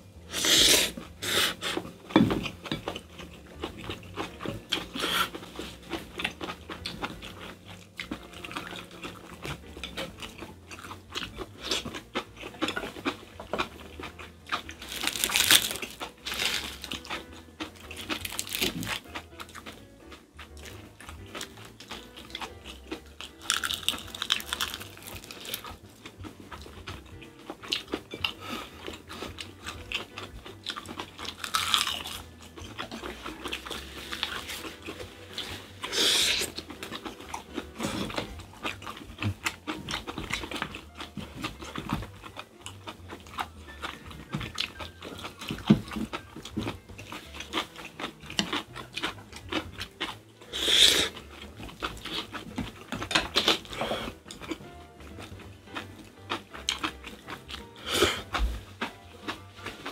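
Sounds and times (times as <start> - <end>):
chewing and crunching: 0.0 - 59.9.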